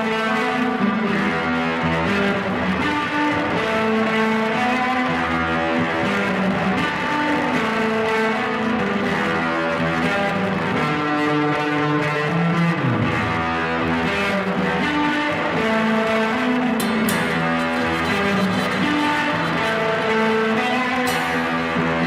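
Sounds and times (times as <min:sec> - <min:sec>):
instrumental guitar band music: 0:00.0 - 0:22.0.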